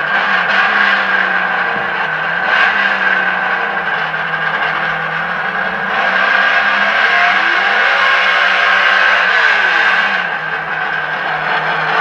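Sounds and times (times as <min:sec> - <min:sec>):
simulated engine sound from speakers: 0:00.0 - 0:12.0.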